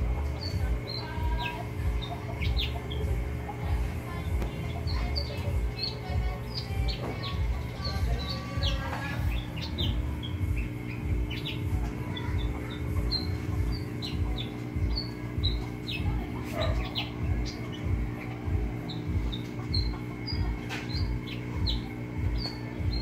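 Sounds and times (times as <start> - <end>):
small birds chirping: 0.0 - 23.0
throbbing low hum: 0.0 - 23.0.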